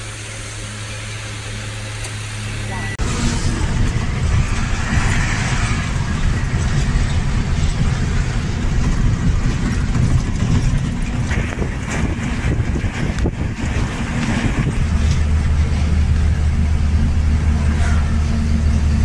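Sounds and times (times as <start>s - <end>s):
road and wind noise: 0.0s - 19.0s
truck engine drone: 0.0s - 19.0s.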